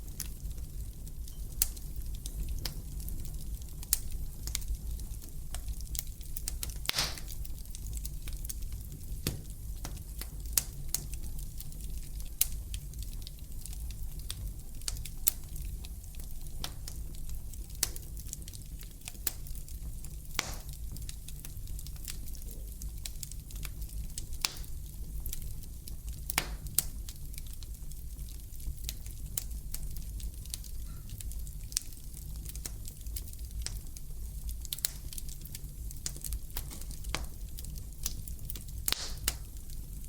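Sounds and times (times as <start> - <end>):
fire crackling and popping: 0.0 - 40.0.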